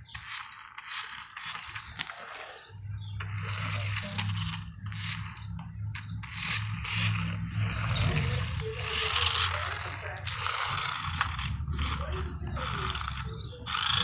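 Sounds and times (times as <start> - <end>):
toy car motor whirring: 0.0 - 14.0.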